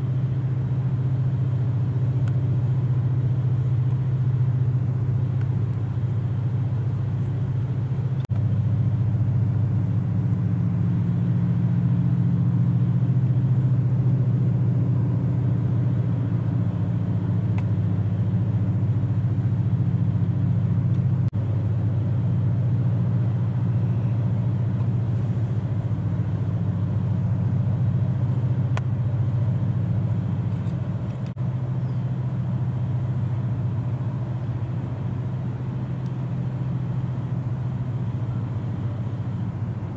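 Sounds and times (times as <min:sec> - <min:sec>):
ship diesel engine humming: 0:00.0 - 0:39.9.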